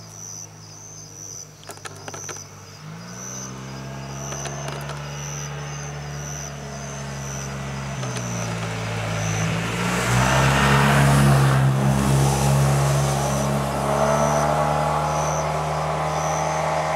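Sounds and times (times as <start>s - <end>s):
low engine hum: 0.0s - 16.9s
motorcycle passing by: 1.9s - 16.9s.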